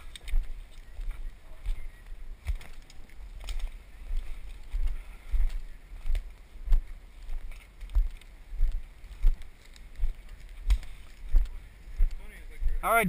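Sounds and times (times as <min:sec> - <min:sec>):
leaves and twigs crackling: 0:00.0 - 0:12.3
footsteps in undergrowth: 0:00.0 - 0:12.8.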